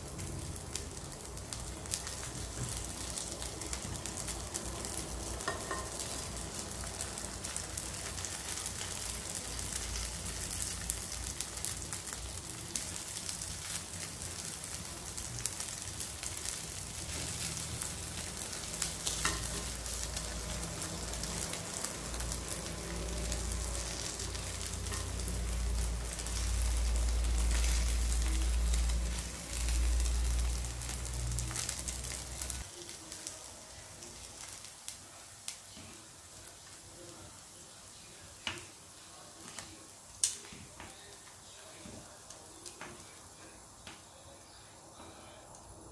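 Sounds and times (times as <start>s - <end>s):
meat frying with pops: 0.0s - 45.9s.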